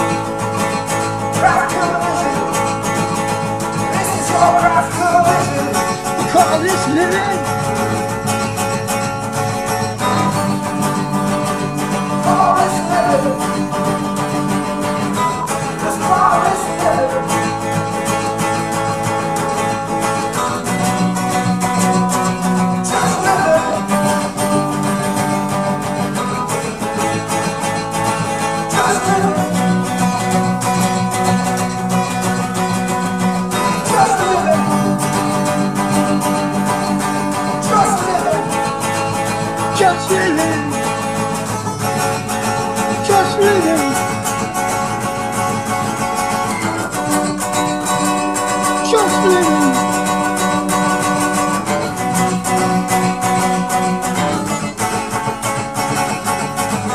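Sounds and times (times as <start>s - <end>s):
acoustic guitar strumming chords: 0.0s - 56.9s.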